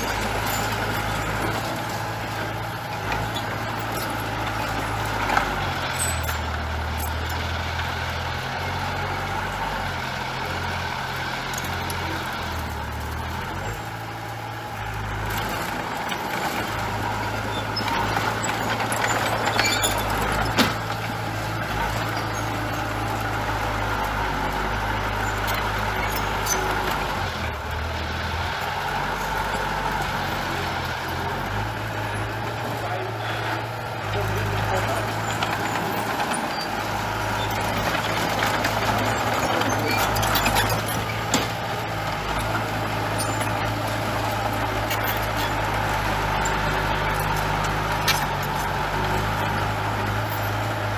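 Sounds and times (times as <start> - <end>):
heavy machinery diesel engines: 0.0 - 50.9.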